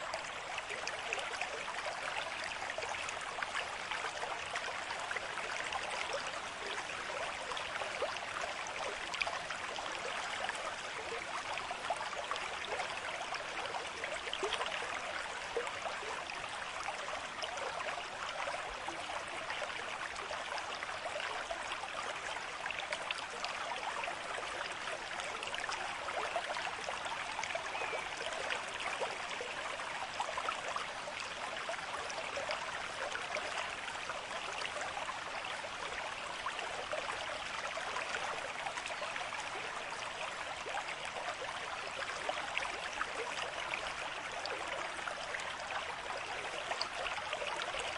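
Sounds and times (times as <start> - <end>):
stream trickling over stones: 0.0 - 47.9.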